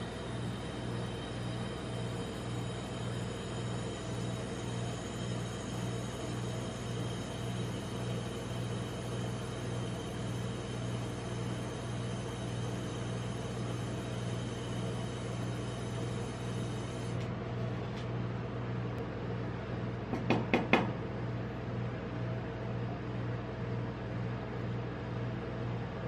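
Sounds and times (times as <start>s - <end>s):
refrigeration unit humming: 0.0s - 26.0s.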